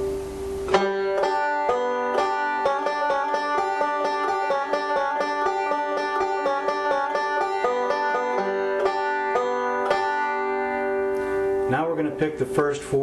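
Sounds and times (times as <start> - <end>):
banjo fingerpicking: 0.0 - 12.4.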